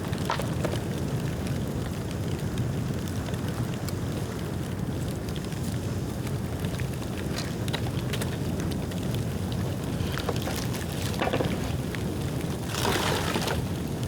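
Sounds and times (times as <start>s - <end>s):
bonfire burning: 0.0s - 14.0s
fire crackles and snaps: 0.0s - 14.0s.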